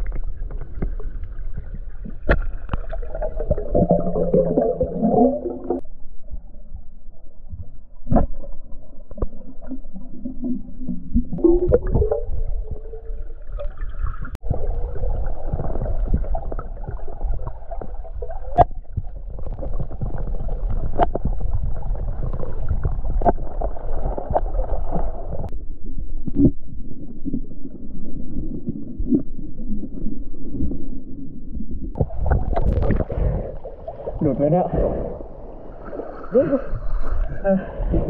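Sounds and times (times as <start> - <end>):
muffled underwater stream gurgling: 0.0 - 38.0.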